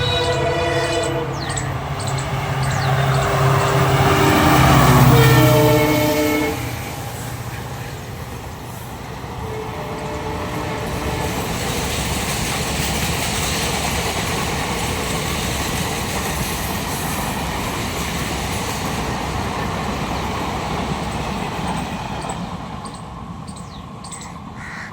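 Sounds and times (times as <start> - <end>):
train rumbling on rails: 0.0 - 24.9.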